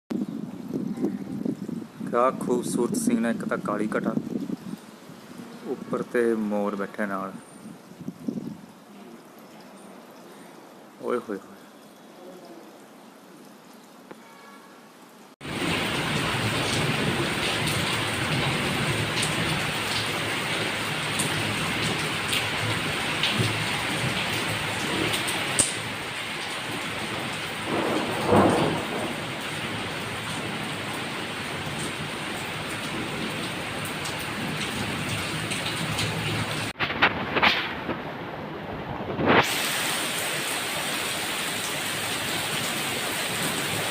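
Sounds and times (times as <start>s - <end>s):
heavy rain: 0.2s - 43.9s.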